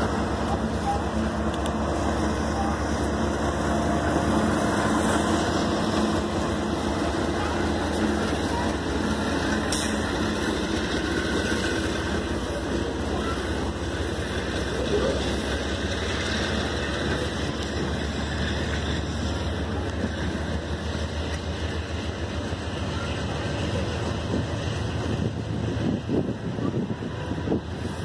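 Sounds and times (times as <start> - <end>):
diesel locomotive engine humming: 0.0 - 28.0
train wheels rumbling on rail: 0.0 - 28.0.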